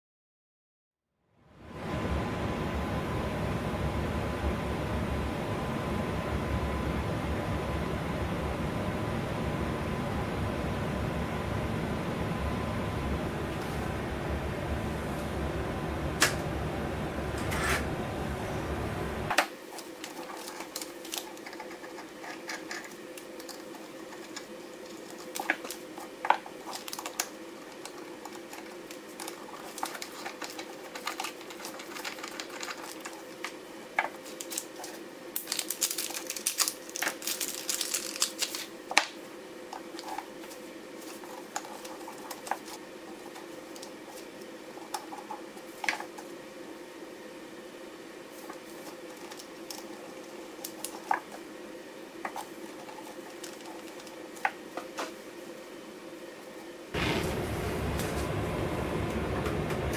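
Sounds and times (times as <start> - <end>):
server cooling fans: 1.3 - 59.9.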